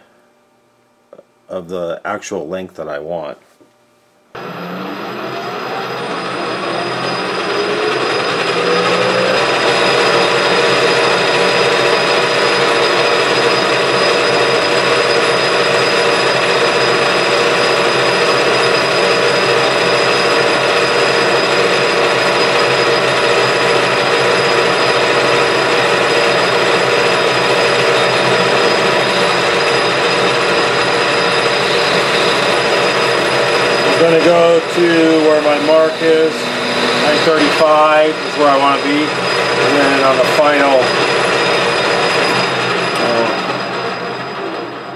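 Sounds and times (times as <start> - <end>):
metal lathe running: 4.4 - 44.9.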